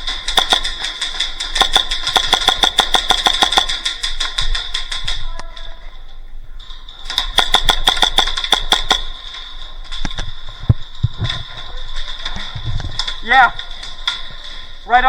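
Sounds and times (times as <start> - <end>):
airsoft gun firing full auto: 0.0 - 5.4, 7.0 - 14.9.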